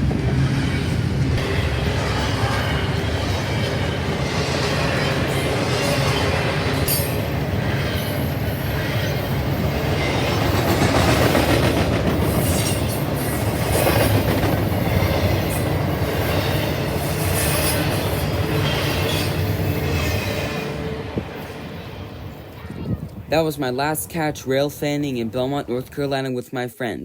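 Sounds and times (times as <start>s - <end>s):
wheels clattering on rails: 0.0s - 26.0s
train cars rumbling past: 0.0s - 26.2s.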